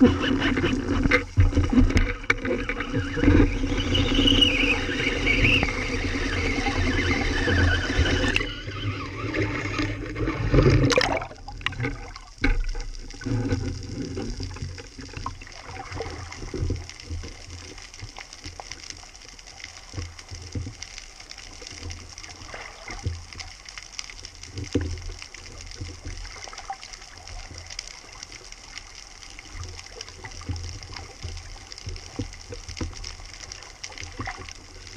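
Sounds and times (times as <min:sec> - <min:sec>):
water rushing underwater: 0:00.0 - 0:34.9.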